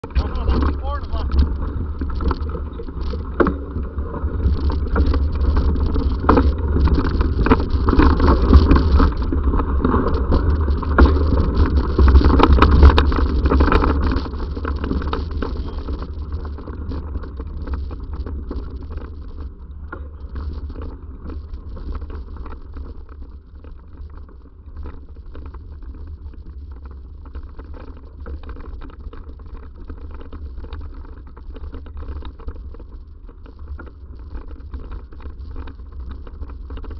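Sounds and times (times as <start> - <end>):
bicycle clicks and rattles: 0.0 - 36.9
wind rumble on microphone: 0.0 - 36.9.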